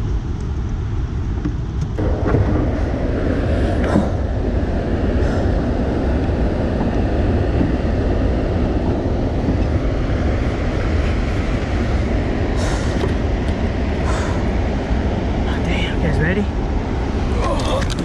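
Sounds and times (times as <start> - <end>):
water roaring through spillway: 2.0 - 18.0.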